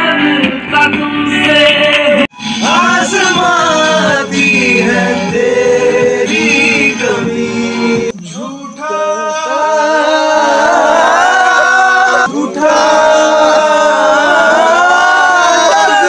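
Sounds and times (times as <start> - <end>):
men singing together: 0.0 - 8.1, 8.8 - 16.0.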